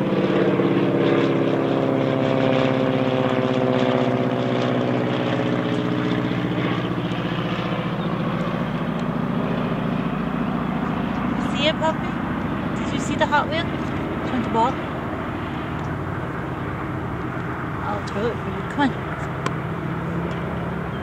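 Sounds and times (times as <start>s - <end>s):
propeller plane droning overhead: 0.0s - 21.0s.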